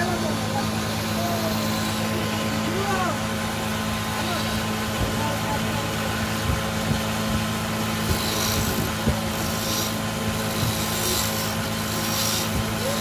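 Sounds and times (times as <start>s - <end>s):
chisel scraping spinning wood: 0.0s - 13.0s
wood lathe motor humming: 0.0s - 13.0s.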